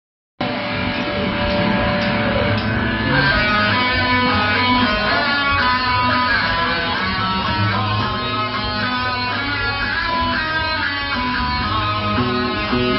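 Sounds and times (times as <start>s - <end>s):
bass guitar: 0.4s - 12.9s
strummed electric guitar: 0.4s - 12.9s.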